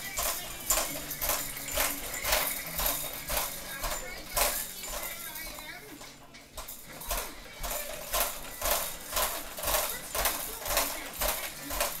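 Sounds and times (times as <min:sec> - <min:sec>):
baby jumper rattling: 0:00.0 - 0:12.0.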